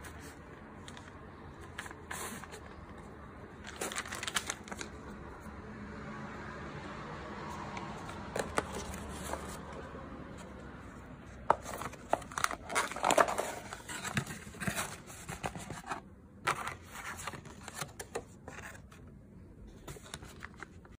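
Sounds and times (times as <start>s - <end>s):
cardboard and plastic packaging rustling: 0.0s - 5.2s, 7.8s - 21.0s.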